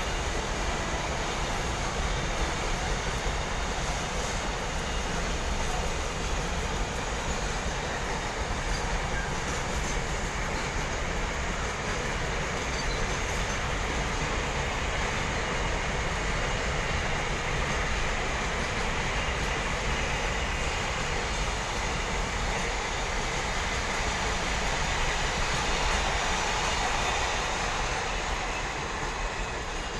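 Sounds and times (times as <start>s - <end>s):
train wheels rumbling on track: 0.0s - 29.9s.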